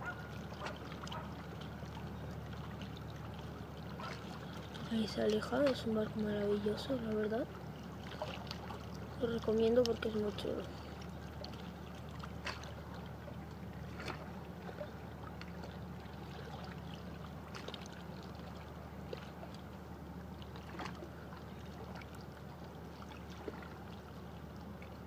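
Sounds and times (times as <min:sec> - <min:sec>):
small sharp splashes: 0:00.0 - 0:19.6, 0:20.4 - 0:22.4
steady low hum: 0:00.0 - 0:25.0
water lapping against rocks: 0:00.0 - 0:25.0.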